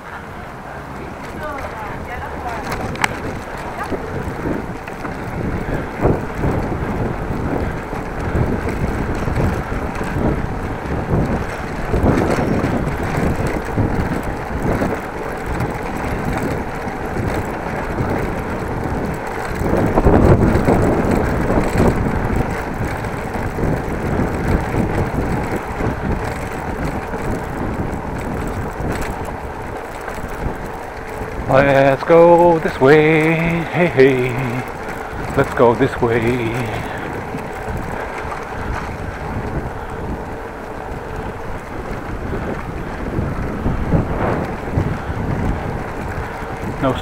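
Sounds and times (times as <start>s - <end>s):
wind rumbling on microphone: 0.0s - 47.0s.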